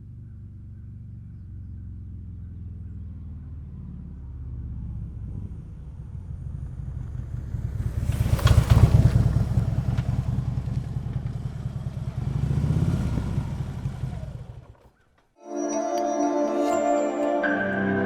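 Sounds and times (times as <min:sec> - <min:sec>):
motorcycle exhaust rumble passing: 0:00.1 - 0:15.0.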